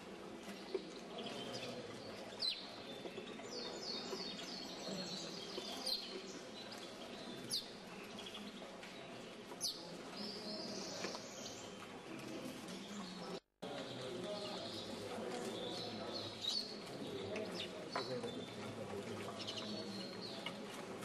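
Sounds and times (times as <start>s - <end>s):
murmur of hall noise: 0.0s - 21.0s.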